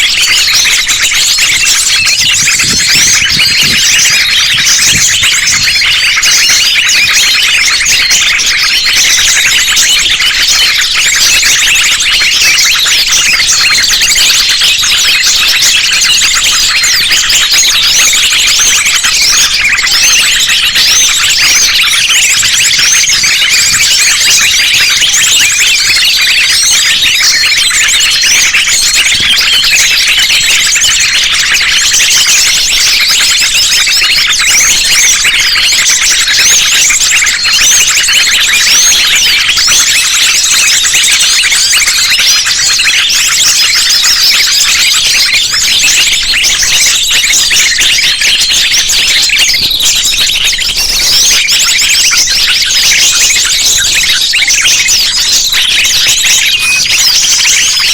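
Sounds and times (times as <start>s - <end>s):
small birds chirping and twittering: 0.0s - 57.9s.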